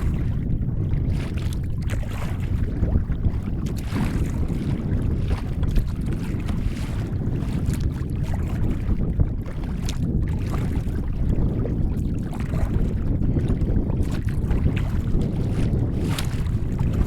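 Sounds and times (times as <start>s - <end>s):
water lapping against hull: 0.0s - 17.0s
wind buffeting microphone: 0.0s - 17.0s.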